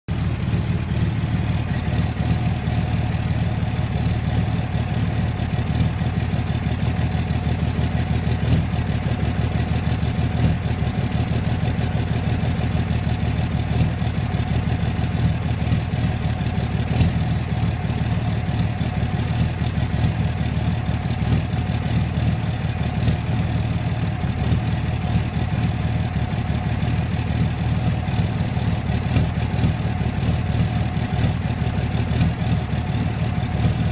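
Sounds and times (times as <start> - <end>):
diesel engine idling with clatter: 0.1 - 33.9.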